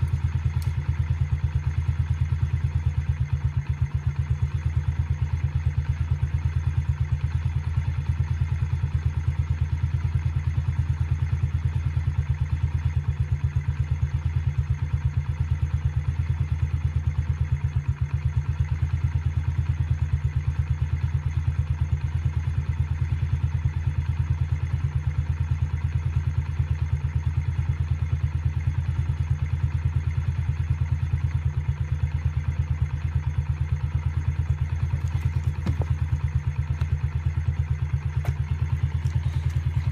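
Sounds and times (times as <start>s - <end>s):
dirt bike engine idling: 0.0s - 39.9s.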